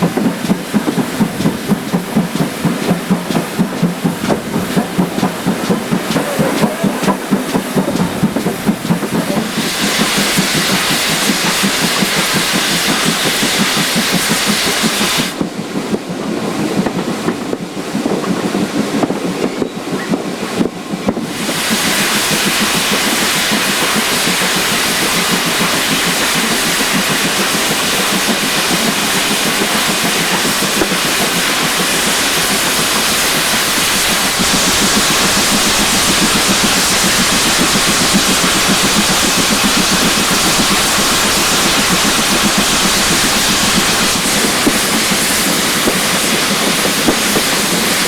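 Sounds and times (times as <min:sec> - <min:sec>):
steam hissing: 0:00.0 - 0:15.6, 0:20.5 - 0:48.0.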